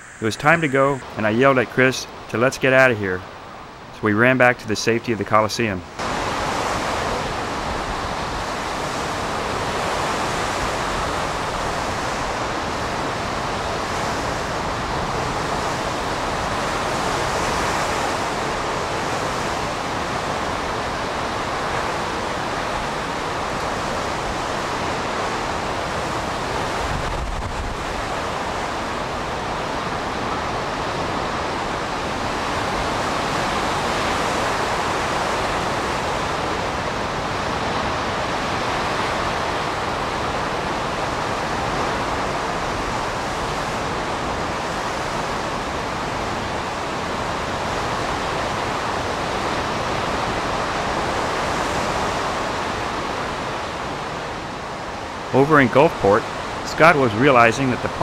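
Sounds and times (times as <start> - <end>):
wind with driving rain: 0.0 - 58.0.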